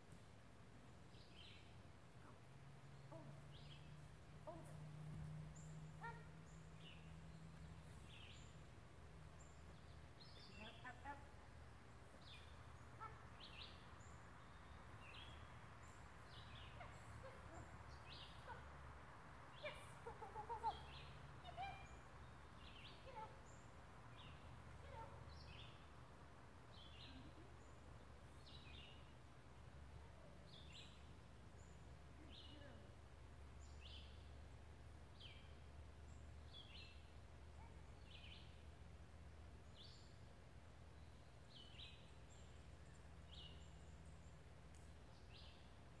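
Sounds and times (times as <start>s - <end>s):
bird chirping: 1.1s - 18.7s, 19.5s - 26.0s, 26.7s - 38.8s, 39.6s - 46.0s.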